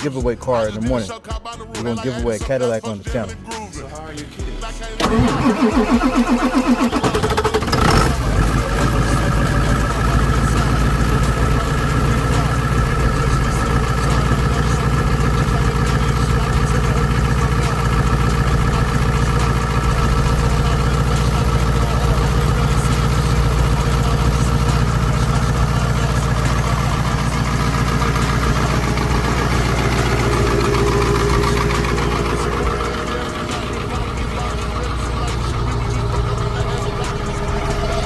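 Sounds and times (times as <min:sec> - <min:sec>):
diesel engine idling: 0:03.2 - 0:38.0.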